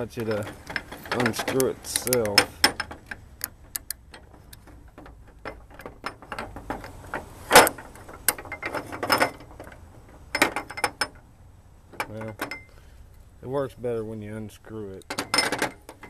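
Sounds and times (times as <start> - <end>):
metal clicks and clinks: 0.0 - 11.2, 11.9 - 12.8, 15.0 - 16.0.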